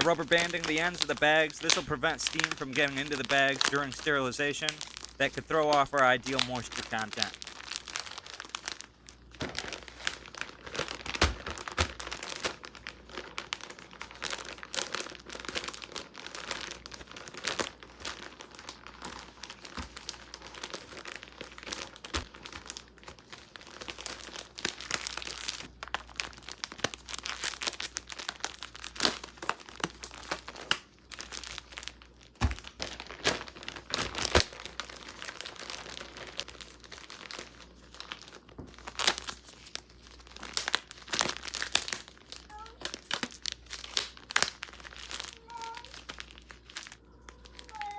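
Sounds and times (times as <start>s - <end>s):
plastic bags crinkling: 0.0s - 47.9s.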